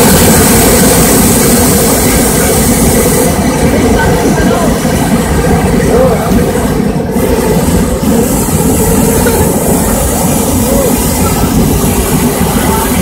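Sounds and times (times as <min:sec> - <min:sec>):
propane burner roaring: 0:00.0 - 0:13.0.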